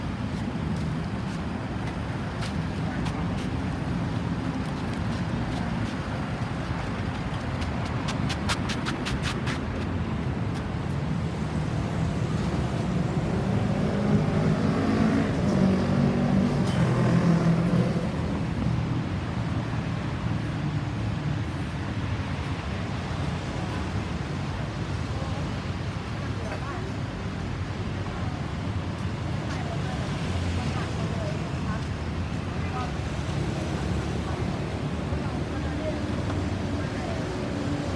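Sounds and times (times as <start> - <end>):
road traffic: 0.0 - 37.9.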